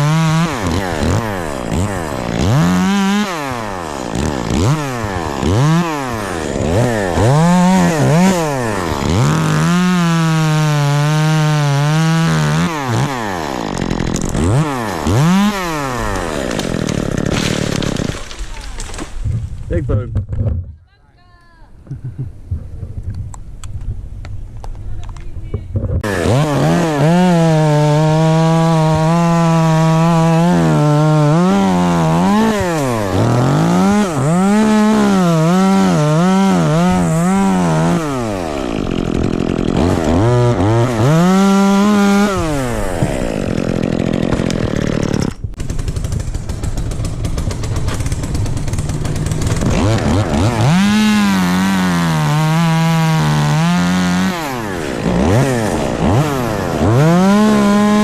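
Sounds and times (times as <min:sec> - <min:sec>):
chainsaw revving: 0:00.0 - 0:19.2, 0:26.0 - 0:58.0.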